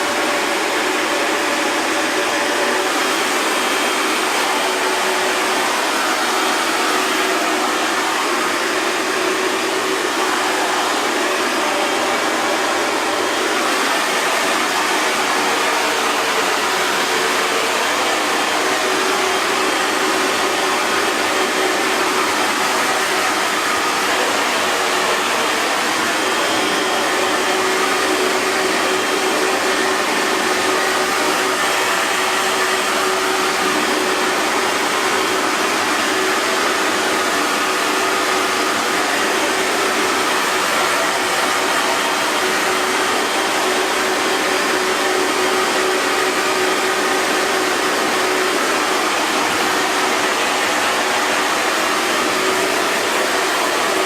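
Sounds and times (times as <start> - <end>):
hair dryer blowing air: 0.0 - 54.0.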